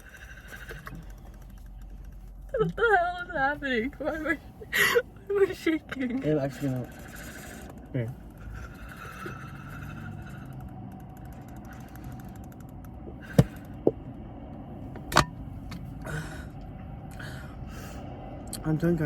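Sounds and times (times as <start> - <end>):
sharp clicks and creaks: 0.0 - 4.2, 5.6 - 17.2
steady low hum: 0.0 - 19.0.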